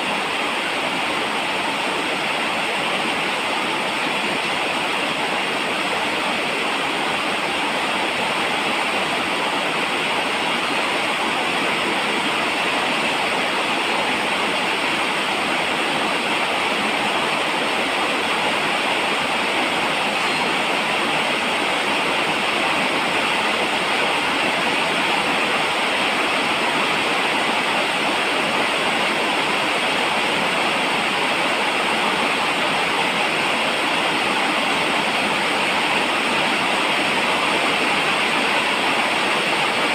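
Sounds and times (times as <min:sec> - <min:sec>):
steady falling rain: 0:00.0 - 0:39.9.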